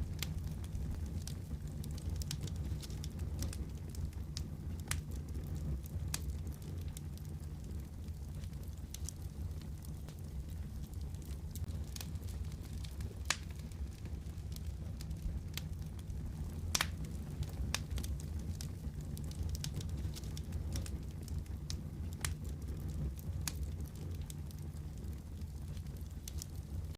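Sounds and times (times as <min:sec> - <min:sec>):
fire crackling and popping: 0:00.0 - 0:26.9
low rumble: 0:00.0 - 0:26.9.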